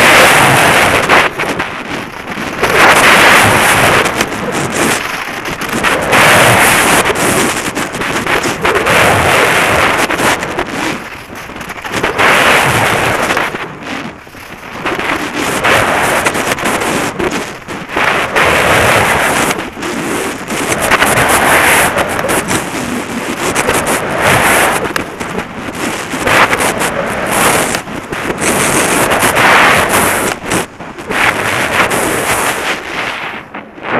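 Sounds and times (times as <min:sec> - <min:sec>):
skis scraping hard snow: 0:00.0 - 0:33.9
wind rushing over microphone: 0:00.0 - 0:33.9.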